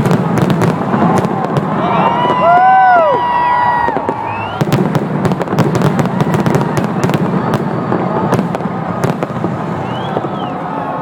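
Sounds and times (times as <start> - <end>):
fireworks cracks and bangs: 0.0 - 11.0
fireworks rumble: 0.0 - 11.0.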